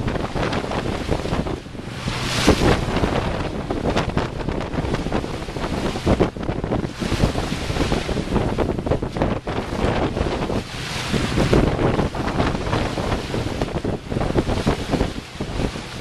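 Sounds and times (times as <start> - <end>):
water rushing along boat hull: 0.0 - 16.0
wind gusting across microphone: 0.0 - 16.0.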